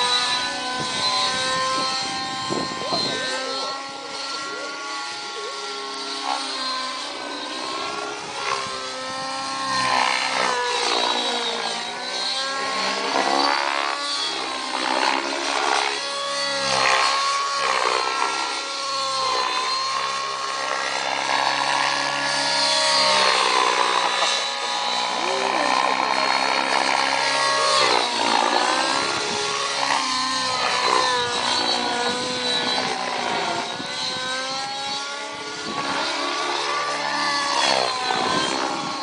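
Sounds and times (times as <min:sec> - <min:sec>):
model helicopter engine and rotor: 0:00.0 - 0:39.0.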